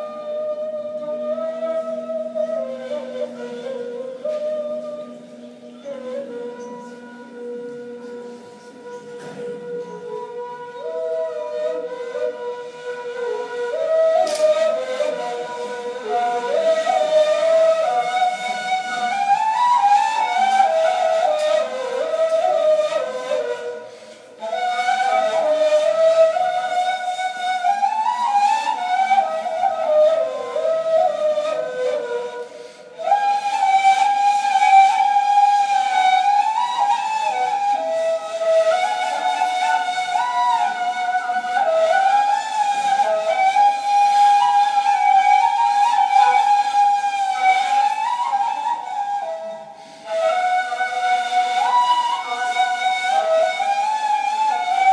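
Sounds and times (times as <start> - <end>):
two flutes playing melody: 0.0 - 54.9.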